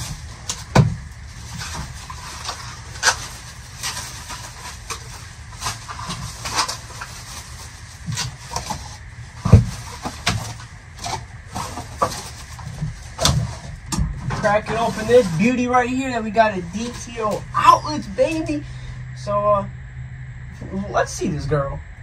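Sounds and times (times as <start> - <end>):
things being handled: 0.0 - 18.6.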